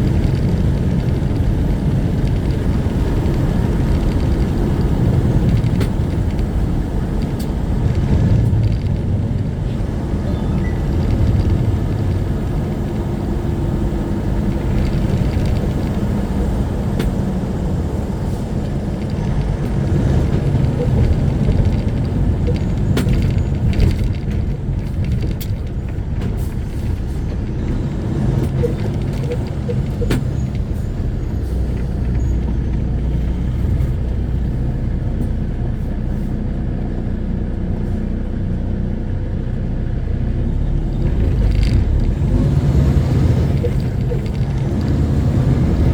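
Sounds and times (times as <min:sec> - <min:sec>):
diesel truck engine with road noise: 0:00.0 - 0:45.9.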